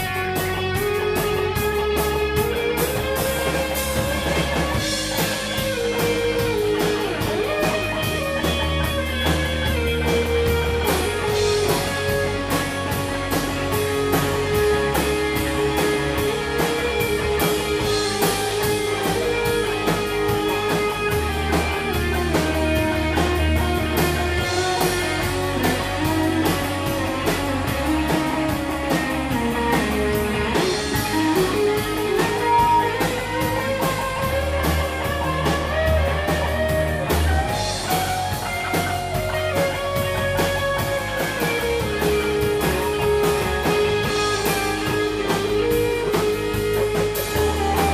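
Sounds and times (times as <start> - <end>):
electric guitar bending notes: 0.0 - 47.9
rock band playing: 0.0 - 47.9.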